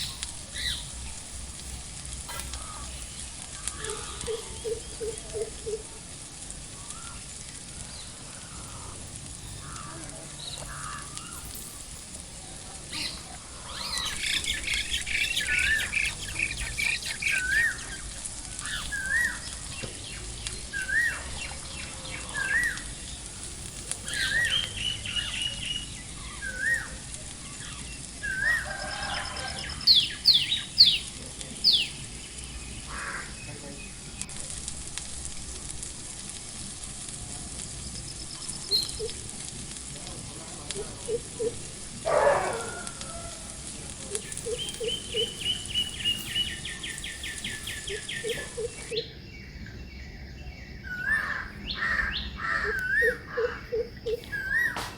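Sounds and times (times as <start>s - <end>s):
wild birds calling: 0.0s - 34.2s, 37.7s - 54.9s
steady hiss: 0.0s - 54.9s.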